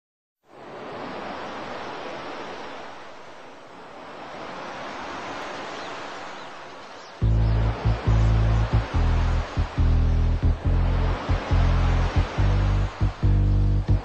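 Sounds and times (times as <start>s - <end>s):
wind: 0.4s - 14.0s
sea surf rushing: 0.5s - 14.0s.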